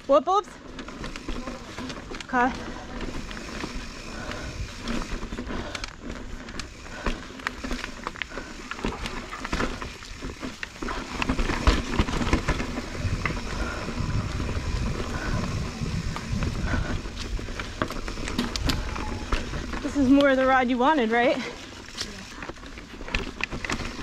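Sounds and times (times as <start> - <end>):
bike clattering and clicking: 0.2 - 24.0
tyres crunching over stones: 0.6 - 24.0.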